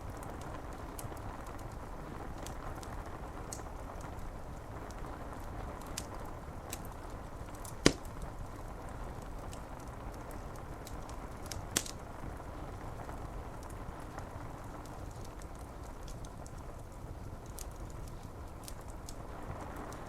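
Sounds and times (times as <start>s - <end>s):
rain on window glass: 0.0s - 20.0s
sharp pops from fire: 0.0s - 20.0s
wood fire crackling: 0.0s - 20.0s.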